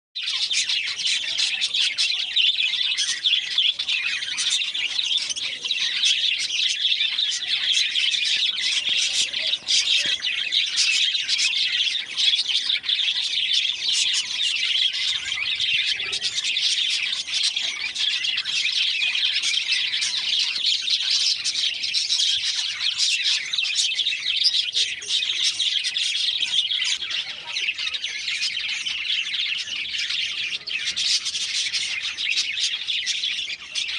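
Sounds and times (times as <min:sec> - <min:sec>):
bird squawks: 0:00.2 - 0:33.9
birds chirping and tweeting: 0:00.2 - 0:33.9.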